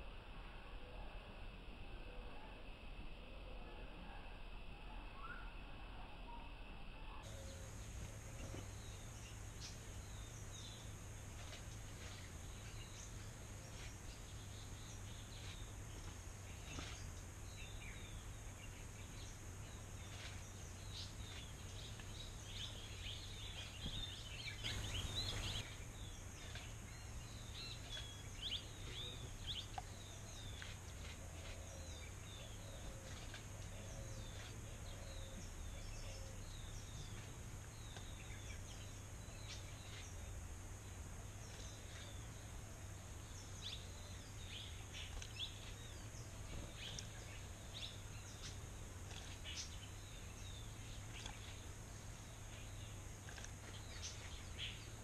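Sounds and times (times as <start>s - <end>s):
small birds chirping: 7.2s - 55.0s
outdoor hiss: 7.3s - 55.0s.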